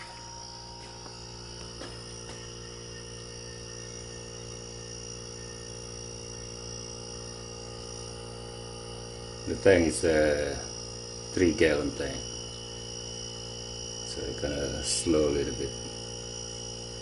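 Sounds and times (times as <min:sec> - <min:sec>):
air compressor humming: 0:00.0 - 0:17.0.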